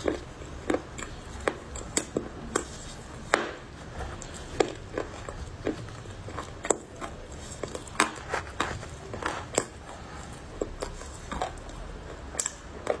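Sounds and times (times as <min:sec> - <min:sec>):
clay crunching as it is chewed: 0:00.0 - 0:13.0.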